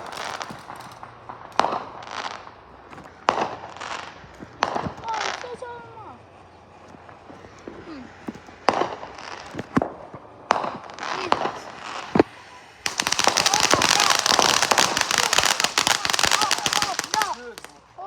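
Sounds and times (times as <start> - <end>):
firecrackers popping: 0.0 - 18.0.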